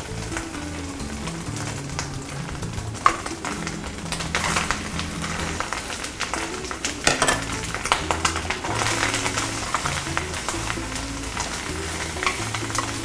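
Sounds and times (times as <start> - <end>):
background music with held notes: 0.0 - 13.0
food sizzling in a pan: 0.0 - 13.0.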